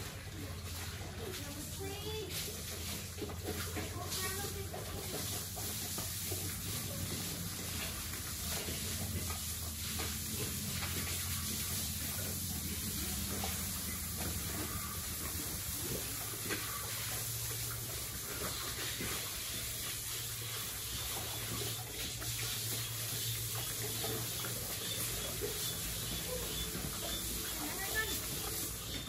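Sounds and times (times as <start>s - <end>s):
water splashing on concrete floor: 0.0s - 29.0s.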